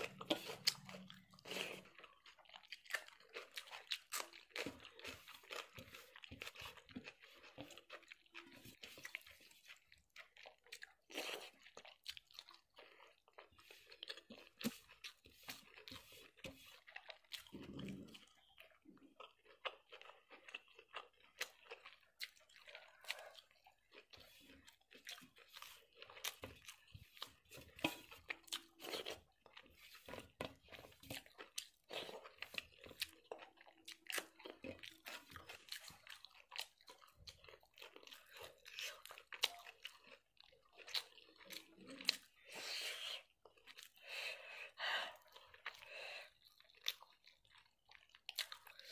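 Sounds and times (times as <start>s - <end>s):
person chewing with wet clicks: 0.0s - 48.9s.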